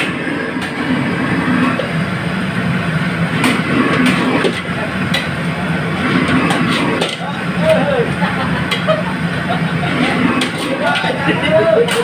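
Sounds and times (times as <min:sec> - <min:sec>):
gas burner rumbling: 0:00.0 - 0:12.0.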